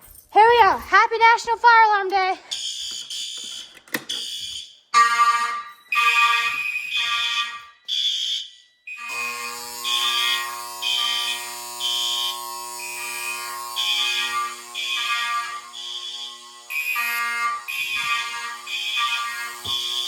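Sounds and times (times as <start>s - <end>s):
continuous alarm horn tone: 2.4s - 20.0s
fire alarm horn blasts: 2.4s - 20.0s.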